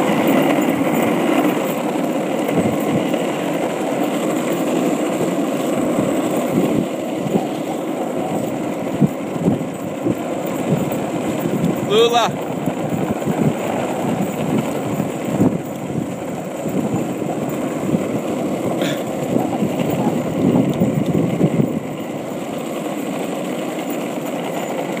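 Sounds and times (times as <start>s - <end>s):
skateboard wheels rolling on road: 0.0s - 25.0s.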